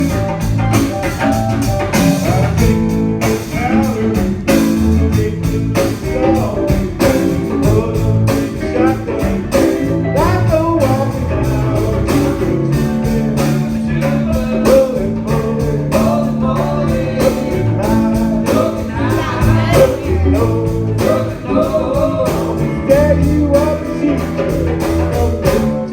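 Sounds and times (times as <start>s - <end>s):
drum hits: 0.0s - 25.9s
guitar: 0.0s - 25.9s
person singing: 2.2s - 25.9s.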